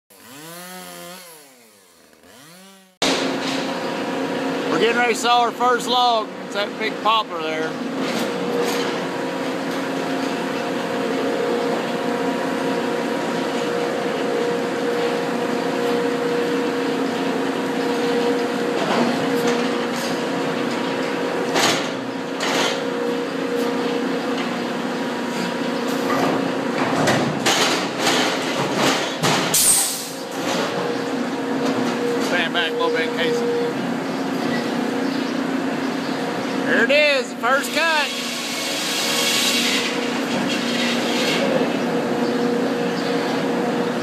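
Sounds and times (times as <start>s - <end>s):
sawmill machinery humming: 0.1s - 26.8s, 30.0s - 44.0s.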